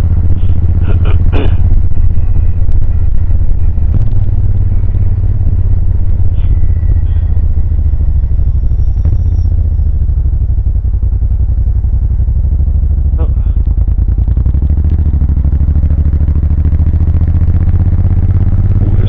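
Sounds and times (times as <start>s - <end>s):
motorcycle engine exhaust: 0.0s - 19.0s.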